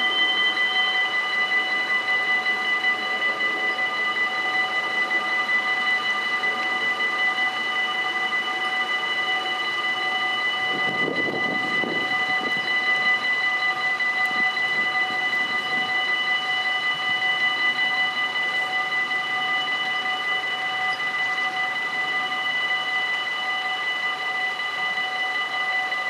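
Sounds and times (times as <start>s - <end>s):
level crossing warning bells: 0.0s - 26.0s.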